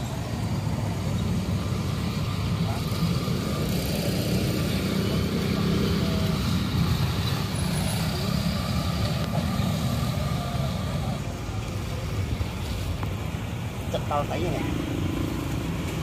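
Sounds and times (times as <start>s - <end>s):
low rumble of road traffic: 0.0s - 16.0s
street noise: 0.0s - 16.0s.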